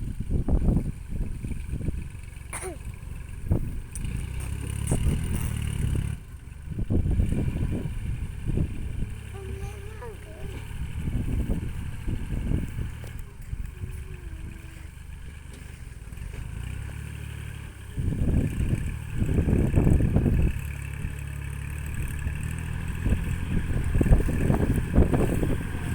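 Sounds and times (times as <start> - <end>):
wind buffeting microphone: 0.0 - 2.2, 3.0 - 15.5, 18.0 - 21.2, 21.8 - 25.9.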